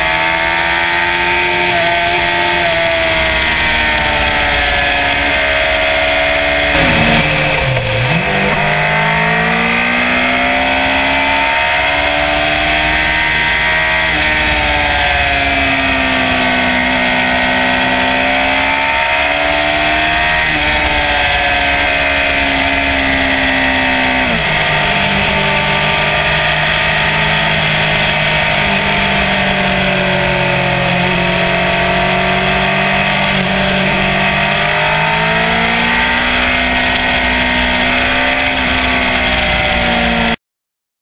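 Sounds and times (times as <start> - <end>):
motorcycle engine cruising: 0.0 - 40.4
wind and road rush: 0.0 - 40.4.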